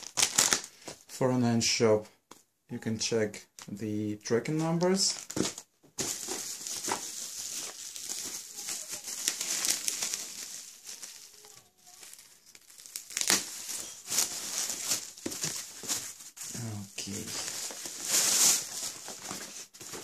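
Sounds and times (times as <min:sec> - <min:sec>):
bubble wrap crinkling: 0:00.0 - 0:01.0, 0:04.5 - 0:20.0.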